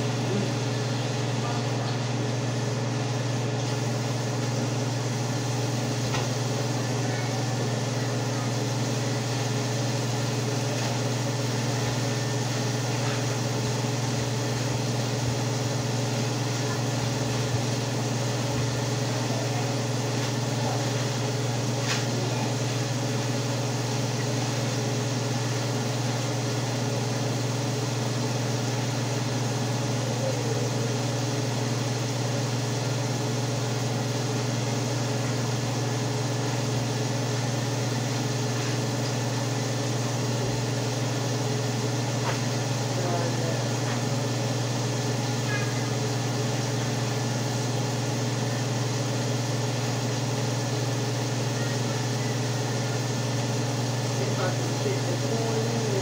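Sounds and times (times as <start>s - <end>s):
electric motor hum: 0.0s - 56.0s.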